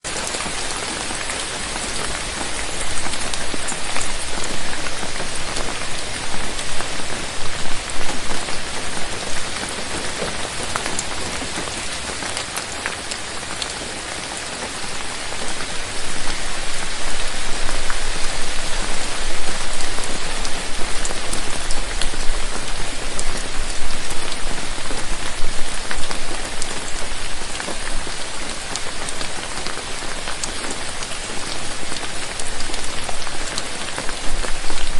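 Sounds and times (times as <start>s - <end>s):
steady rain falling: 0.0s - 34.9s
raindrops ticking: 0.1s - 34.9s.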